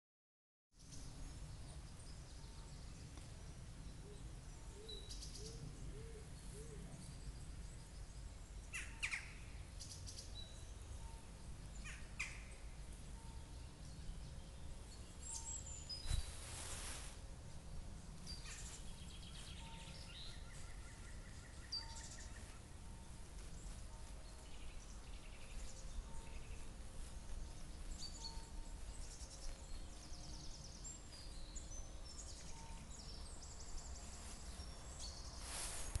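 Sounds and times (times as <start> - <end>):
faint low rumble: 0.8 - 36.0
songbirds chirping and trilling: 0.8 - 36.0.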